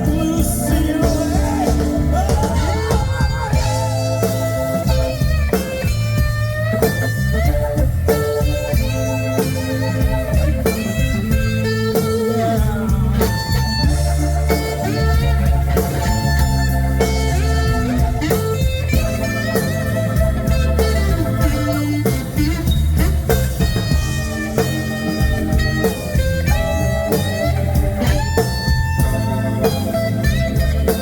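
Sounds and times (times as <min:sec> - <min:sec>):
bass line: 0:00.0 - 0:31.0
blues lead guitar solo: 0:00.0 - 0:31.0
drums: 0:00.0 - 0:31.0.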